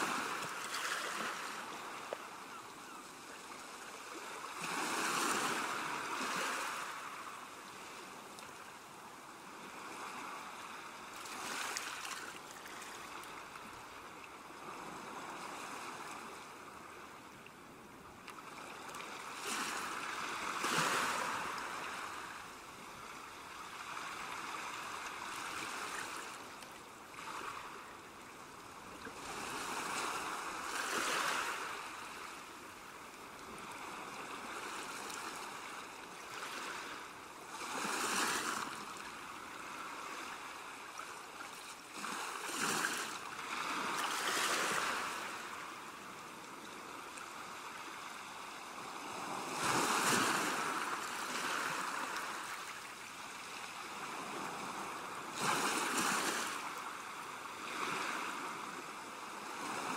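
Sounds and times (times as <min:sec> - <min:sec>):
waves breaking on shore: 0:00.0 - 0:17.4, 0:18.2 - 0:59.9.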